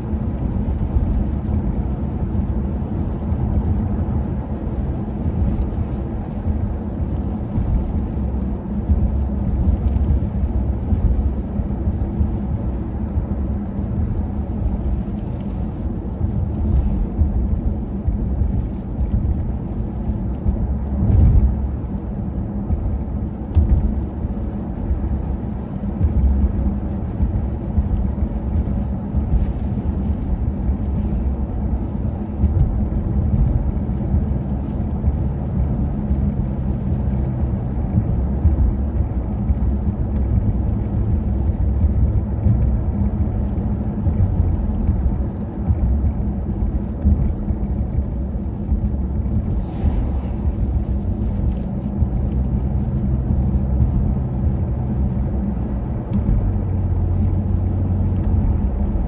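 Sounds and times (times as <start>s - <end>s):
steady low hum: 0.0s - 59.0s
wind buffeting microphone: 0.0s - 59.0s.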